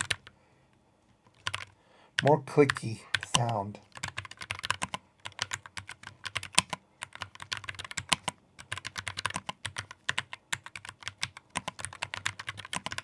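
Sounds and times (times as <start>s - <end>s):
clicky keyboard typing: 0.0s - 0.3s, 1.3s - 13.0s.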